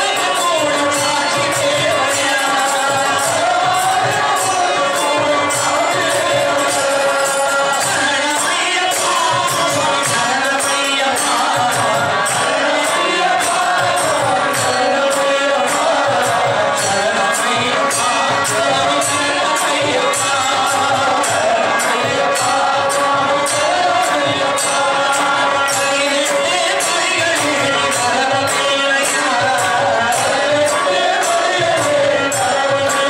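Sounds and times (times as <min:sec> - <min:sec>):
harmonium: 0:00.0 - 0:33.0
lead singer singing: 0:00.0 - 0:33.0
men's chorus singing: 0:00.0 - 0:33.0
steady percussion beat: 0:00.0 - 0:33.0.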